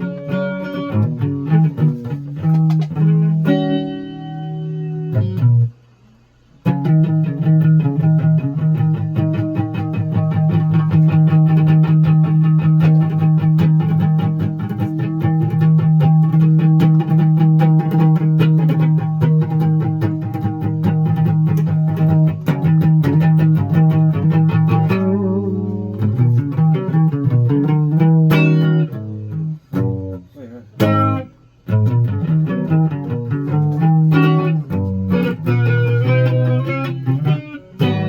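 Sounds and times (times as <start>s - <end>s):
plucked guitar music: 0.0s - 5.8s, 6.6s - 38.0s.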